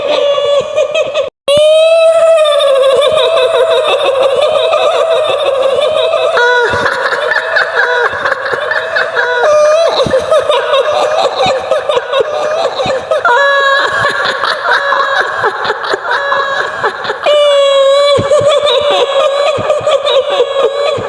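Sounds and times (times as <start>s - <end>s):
woman's high-pitched cackling laughter: 2.5s - 21.0s.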